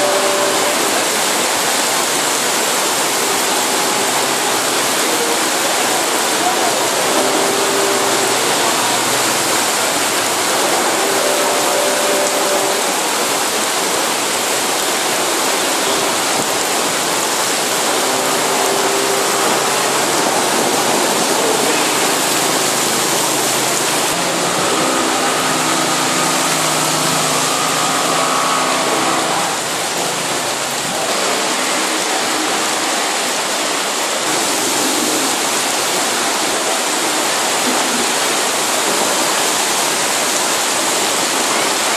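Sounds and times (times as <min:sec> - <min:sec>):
motorbikes passing: 0:00.0 - 0:34.5
heavy rain pouring: 0:00.0 - 0:41.9.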